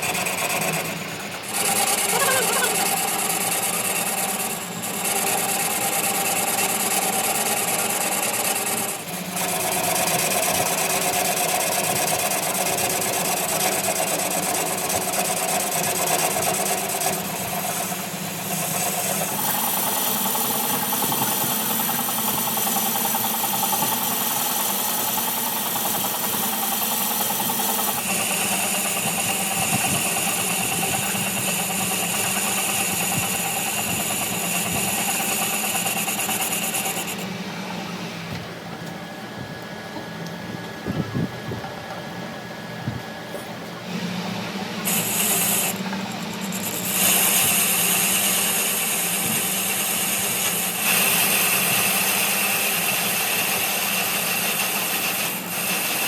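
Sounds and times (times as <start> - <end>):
workshop machinery running: 0.0 - 56.0.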